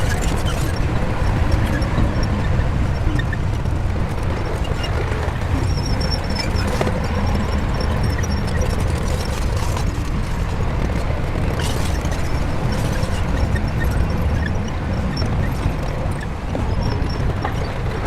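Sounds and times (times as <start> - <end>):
bulldozer diesel engine rumbling: 0.0 - 18.0
high squeaks from tracks: 0.0 - 18.0.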